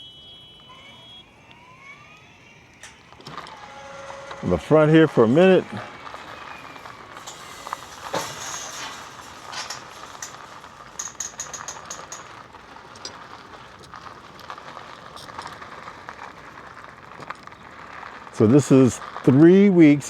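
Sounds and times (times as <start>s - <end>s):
bicycle clicks and rattles: 2.1s - 20.0s.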